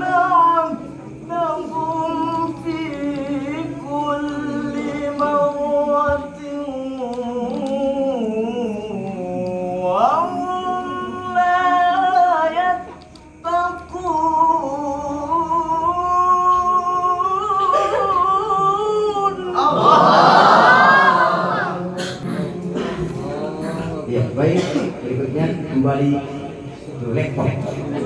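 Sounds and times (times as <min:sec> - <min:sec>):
man reciting melodically: 0:00.0 - 0:28.0.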